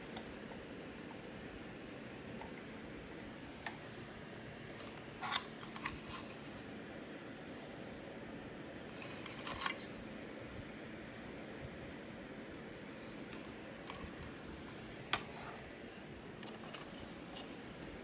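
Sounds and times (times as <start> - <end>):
faint room hum: 0.0 - 18.0.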